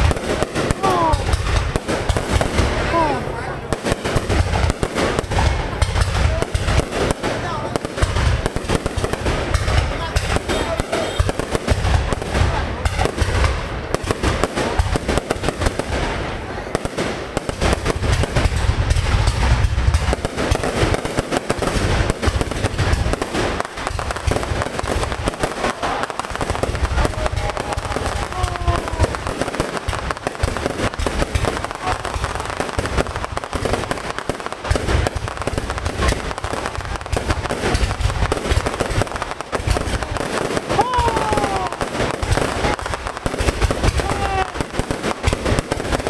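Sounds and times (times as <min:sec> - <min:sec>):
fireworks booming: 0:00.0 - 0:46.0
fireworks crackling and popping: 0:00.0 - 0:46.0.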